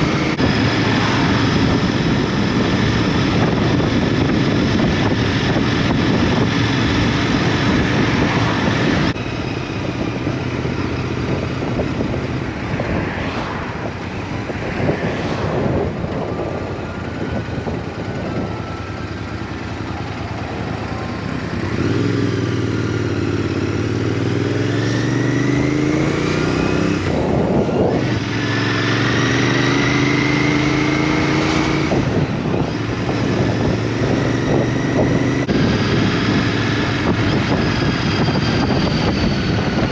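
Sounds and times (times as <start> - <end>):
motorcycle engine accelerating: 0.0 - 39.9
wind rush: 0.0 - 39.9.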